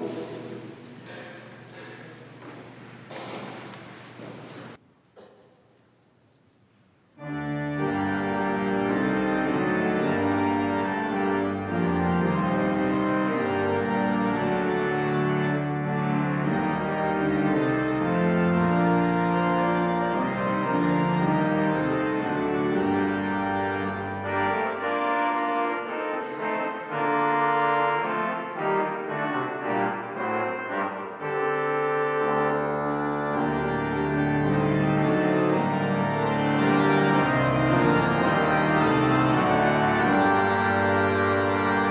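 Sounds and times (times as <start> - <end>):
pipe organ chords: 7.2 - 41.9.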